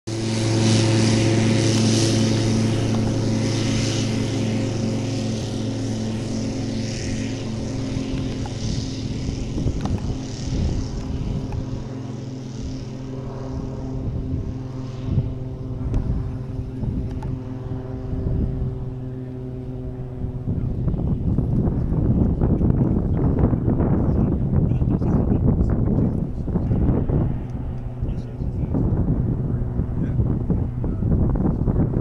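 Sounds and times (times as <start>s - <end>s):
propeller engine running: 0.0s - 32.0s
wind rumbling on microphone: 0.1s - 32.0s.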